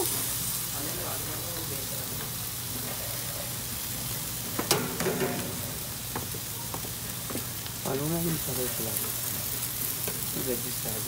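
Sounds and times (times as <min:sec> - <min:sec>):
chicken sizzling on a grill: 0:00.0 - 0:11.0.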